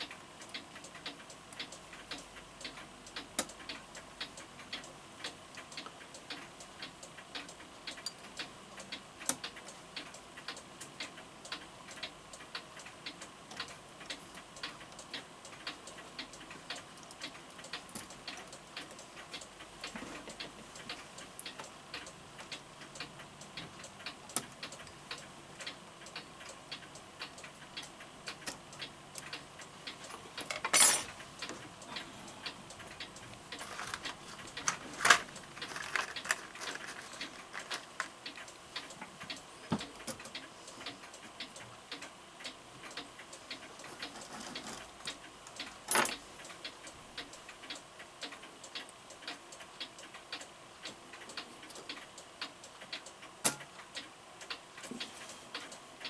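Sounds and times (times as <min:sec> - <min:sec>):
mantel clock ticking: 0:00.0 - 0:56.0.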